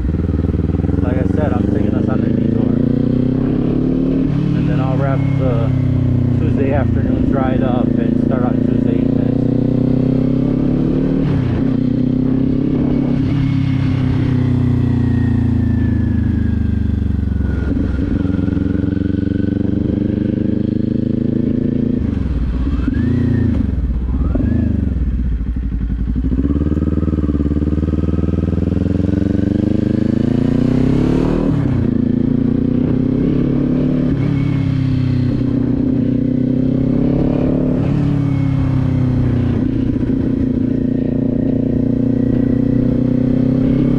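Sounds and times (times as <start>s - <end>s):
motorcycle engine and exhaust: 0.0s - 43.9s.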